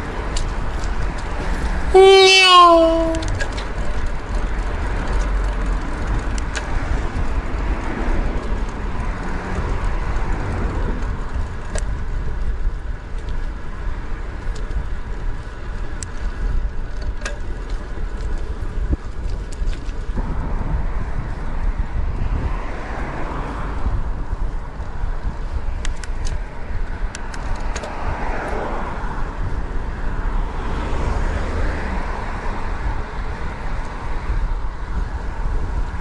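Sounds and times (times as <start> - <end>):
rolling road noise: 0.0 - 36.0
wind buffeting microphone: 0.0 - 36.0.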